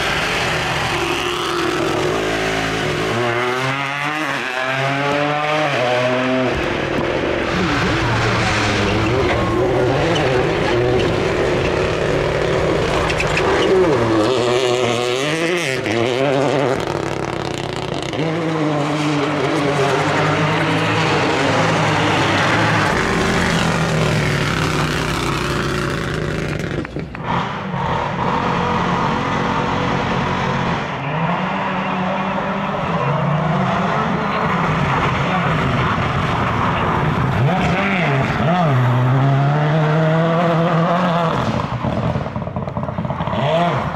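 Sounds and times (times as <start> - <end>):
rally car engine revving hard: 0.0 - 43.9.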